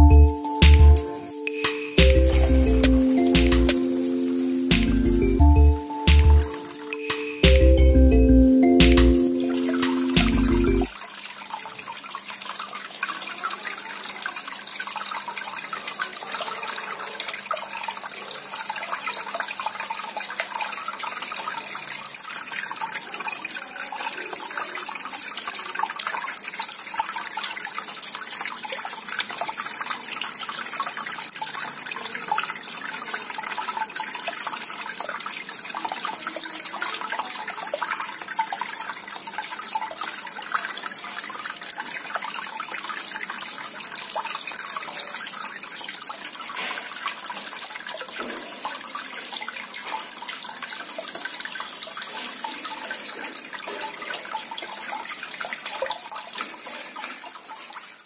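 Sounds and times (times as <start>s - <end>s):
fountain water trickling and splashing: 0.0s - 58.0s.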